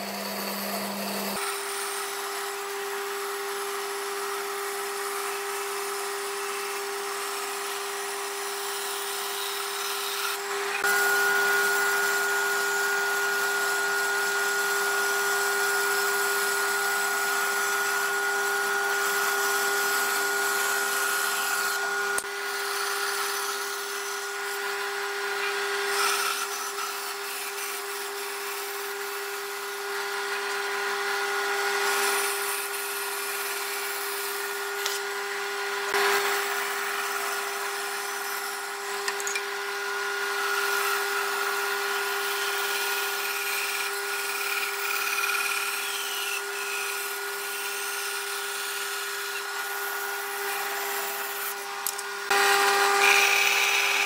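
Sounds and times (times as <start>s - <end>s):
band saw cutting wood: 0.0s - 54.0s.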